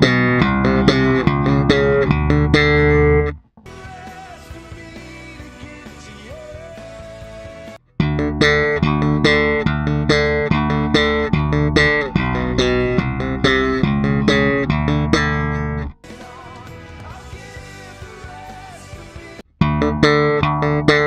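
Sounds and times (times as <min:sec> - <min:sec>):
slap bass riff: 0:00.0 - 0:21.0.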